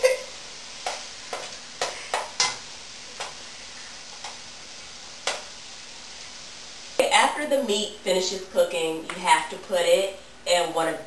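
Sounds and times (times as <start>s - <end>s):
meat sizzling in a pot: 0.0s - 9.5s.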